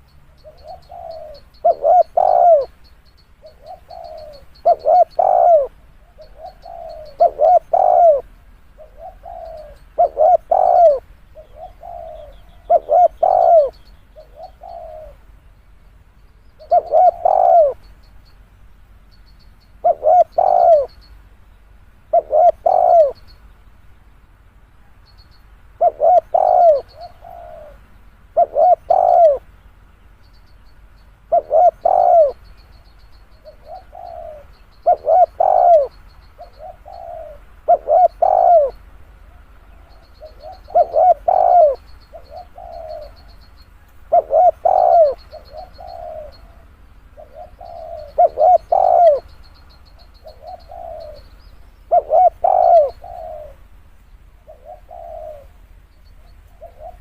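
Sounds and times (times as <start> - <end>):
dove cooing: 0.0 - 15.4, 16.5 - 18.0, 19.8 - 21.0, 22.0 - 23.4, 24.8 - 29.6, 31.2 - 57.0.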